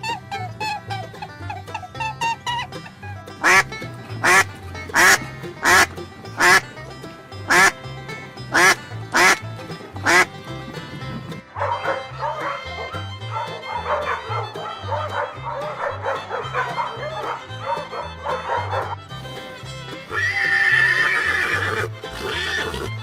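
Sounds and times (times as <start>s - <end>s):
duck quacking: 0.0s - 10.4s, 11.3s - 19.5s.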